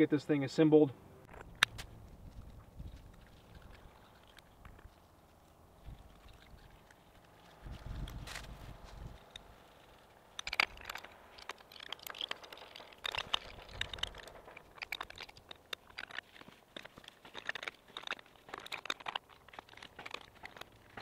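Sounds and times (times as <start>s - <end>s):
thread tape crinkling: 1.6s - 21.0s.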